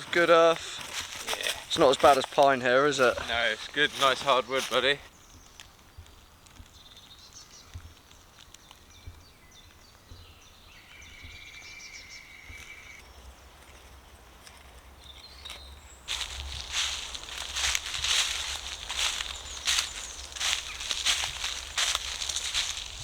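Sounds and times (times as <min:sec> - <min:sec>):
rustling of leaves and twigs: 0:00.0 - 0:11.1, 0:12.4 - 0:23.0
small birds singing: 0:00.0 - 0:23.0.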